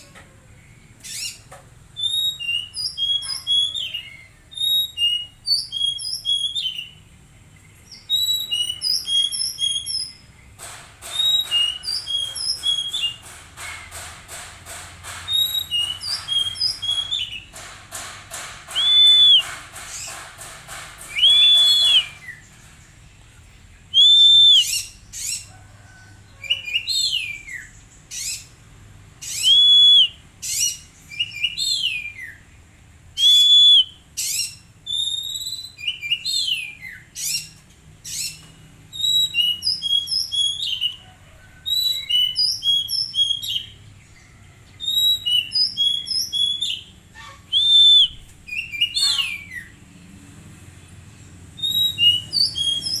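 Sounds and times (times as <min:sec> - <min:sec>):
bird whistled song: 0:00.6 - 0:13.9, 0:15.3 - 0:17.5, 0:18.7 - 0:20.2, 0:21.0 - 0:22.6, 0:23.8 - 0:25.5, 0:26.4 - 0:28.5, 0:29.2 - 0:41.0, 0:41.6 - 0:44.1, 0:44.7 - 0:49.8, 0:51.6 - 0:53.0.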